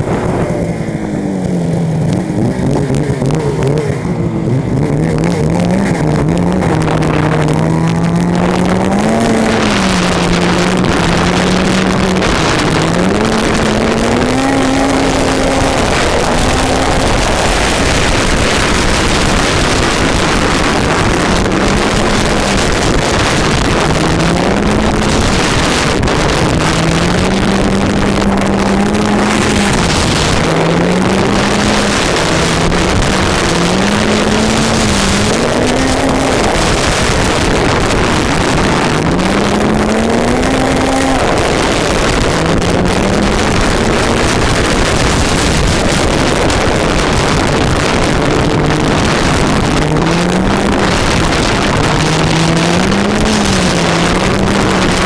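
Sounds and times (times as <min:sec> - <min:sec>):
snowmobile engine revving: 0:00.0 - 0:55.0
wind buffeting microphone: 0:00.0 - 0:55.0.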